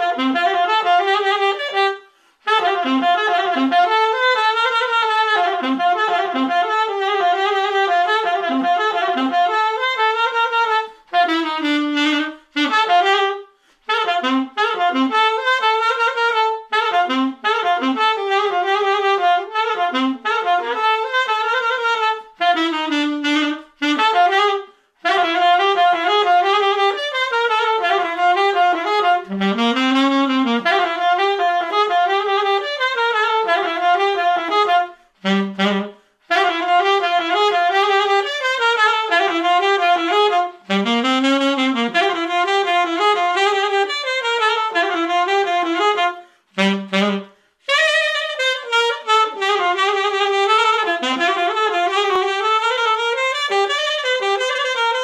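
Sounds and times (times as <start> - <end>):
solo saxophone melody: 0.0 - 55.0.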